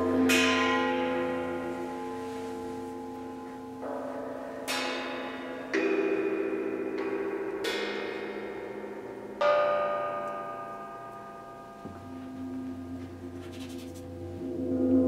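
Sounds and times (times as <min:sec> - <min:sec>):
bell-like metal percussion: 0:00.0 - 0:15.0
low gong tone: 0:00.0 - 0:15.0.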